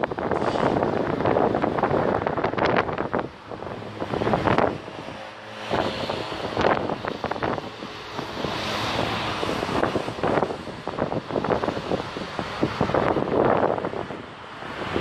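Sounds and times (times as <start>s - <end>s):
cars driving by: 0.0s - 15.0s
wind buffeting microphone: 0.0s - 15.0s.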